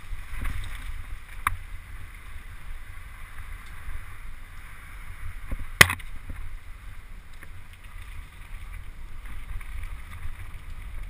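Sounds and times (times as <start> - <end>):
bike tyres rumbling on dirt: 0.0 - 11.0
wind buffeting microphone: 0.0 - 11.0.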